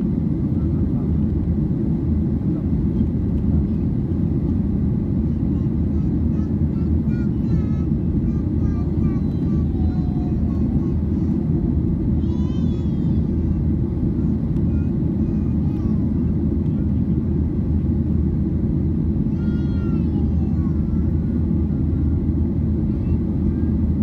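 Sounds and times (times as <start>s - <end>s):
airplane cabin rumble: 0.0s - 24.0s
faint passenger voices: 0.0s - 24.0s.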